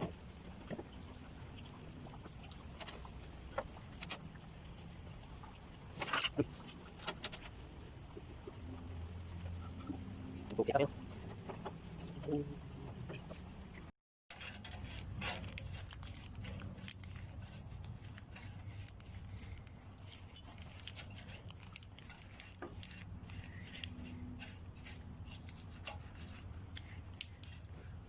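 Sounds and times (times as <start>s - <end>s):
paintbrush scraping on metal frame: 0.0s - 28.0s.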